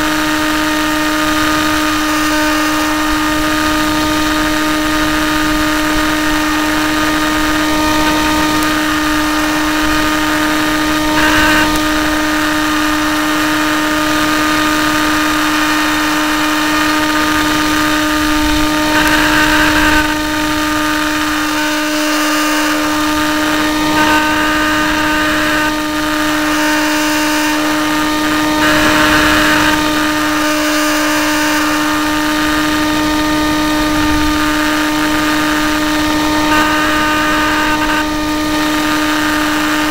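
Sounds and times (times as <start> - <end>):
electric model plane whine: 0.0 - 39.9
rushing air: 0.1 - 21.8, 22.5 - 39.9.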